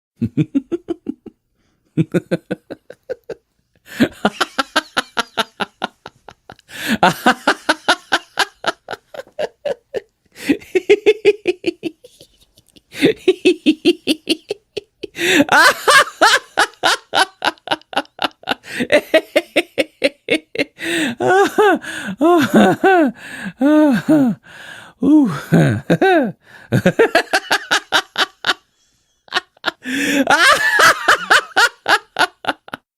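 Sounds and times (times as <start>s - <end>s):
man laughing hard: 0.2s - 1.3s, 2.0s - 24.4s, 25.0s - 28.6s, 29.2s - 32.8s.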